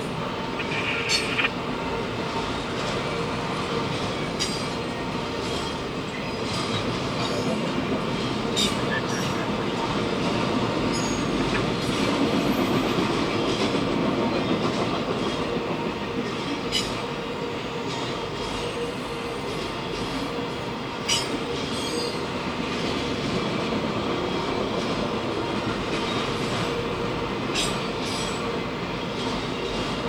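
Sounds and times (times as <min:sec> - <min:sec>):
freight train cars rolling: 0:00.0 - 0:30.0.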